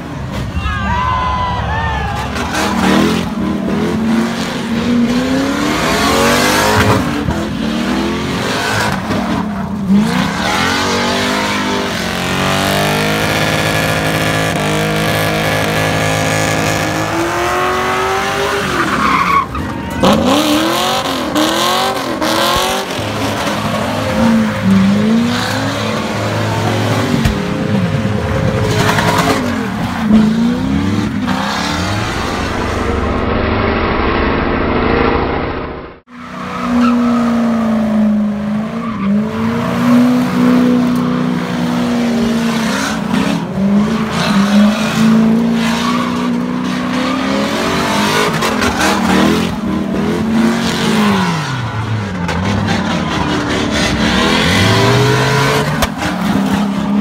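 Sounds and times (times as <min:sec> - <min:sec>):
car engine revving: 0:02.2 - 0:57.0.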